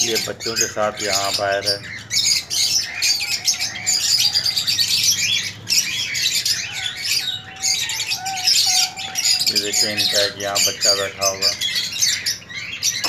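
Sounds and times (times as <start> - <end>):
cage birds chirping: 0.0 - 13.0.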